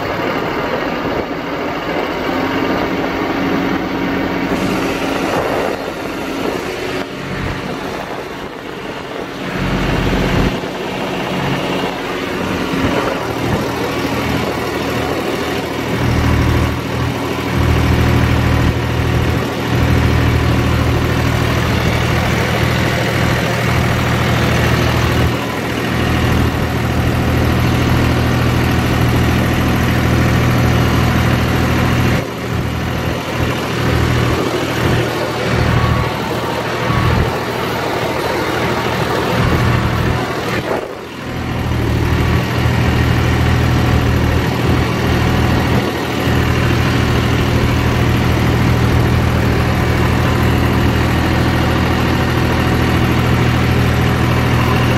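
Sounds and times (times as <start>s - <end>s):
rotavator tilling soil: 0.0s - 54.9s
tractor diesel engine running: 0.0s - 54.9s.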